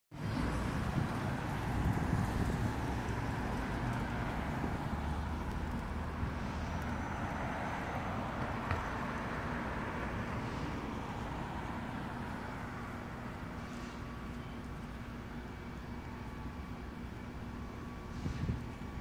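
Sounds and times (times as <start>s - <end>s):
car tyre and road noise: 0.1s - 19.0s
low street traffic hum: 0.1s - 19.0s.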